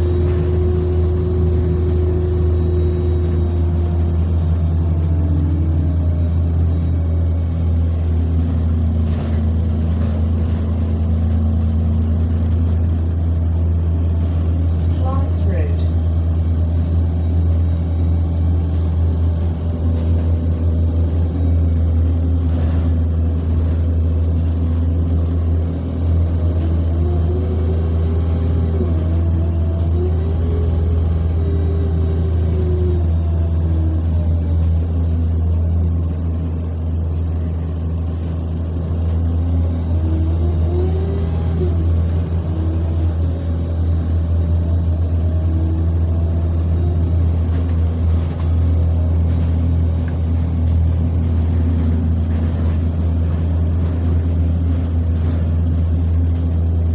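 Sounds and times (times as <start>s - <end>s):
bus engine drone and whine: 0.0s - 56.9s.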